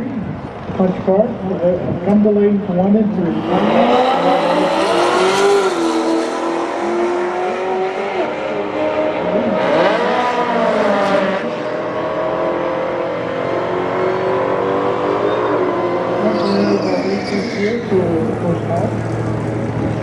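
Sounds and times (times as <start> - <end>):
car engine revving: 2.8 - 20.0.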